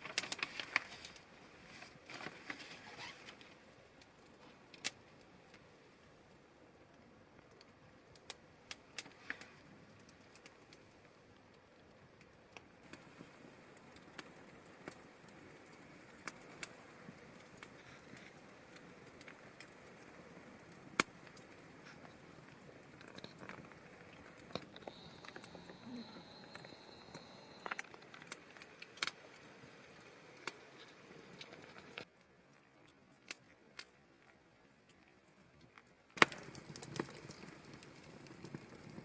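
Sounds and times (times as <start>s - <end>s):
low hiss: 0.0s - 32.4s
wood fire crackling: 0.0s - 39.0s.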